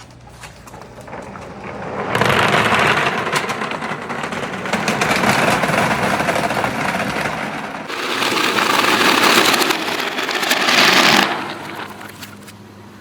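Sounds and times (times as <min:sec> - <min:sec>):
balls rolling down marble run: 0:00.5 - 0:12.4.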